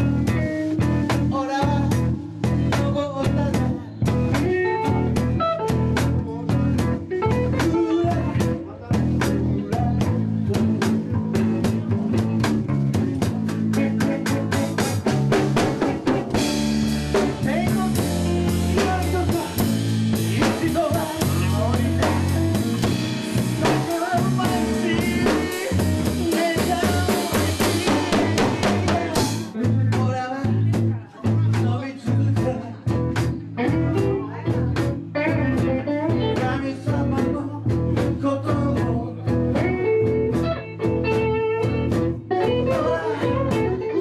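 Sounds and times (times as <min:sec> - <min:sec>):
bass guitar notes: 0:00.0 - 0:44.0
drum kit: 0:00.0 - 0:44.0
electric guitar: 0:00.0 - 0:44.0.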